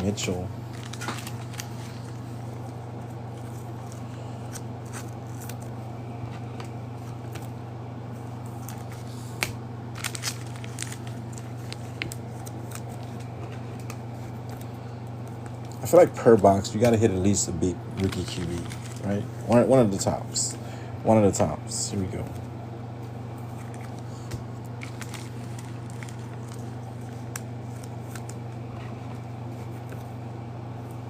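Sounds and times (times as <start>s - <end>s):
cards and wrappers rustling: 0.0s - 7.5s, 8.4s - 20.5s, 23.4s - 30.1s.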